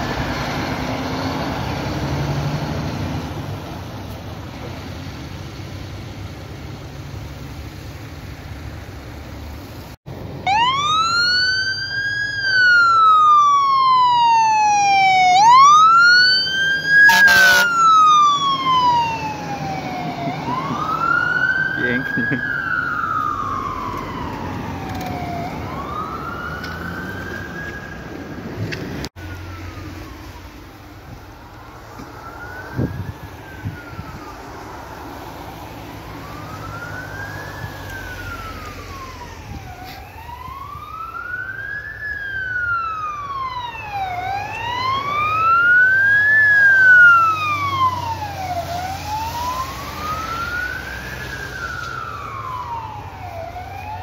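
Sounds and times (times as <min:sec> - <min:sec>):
fire engine sirens wailing: 0:00.0 - 0:54.0
low engine and road rumble: 0:00.0 - 0:54.0.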